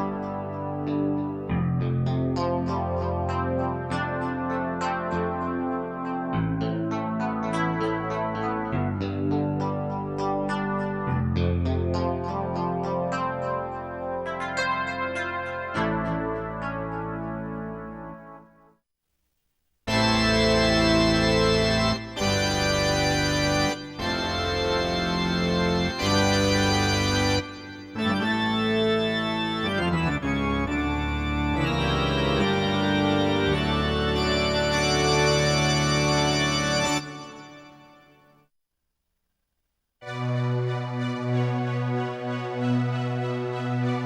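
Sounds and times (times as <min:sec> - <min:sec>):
synthesizer organ chords: 0:00.0 - 0:18.7, 0:19.9 - 0:38.3, 0:40.0 - 0:44.0.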